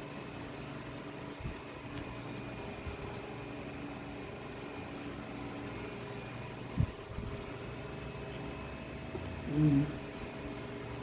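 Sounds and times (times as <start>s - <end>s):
mechanical hum with held tones: 0.0s - 11.0s.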